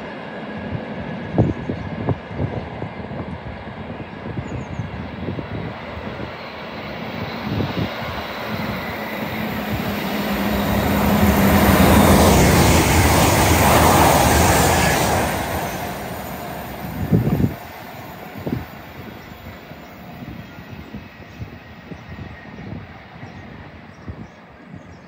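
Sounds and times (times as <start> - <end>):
train passing rumble: 0.0 - 24.8
low train hum: 0.0 - 25.0.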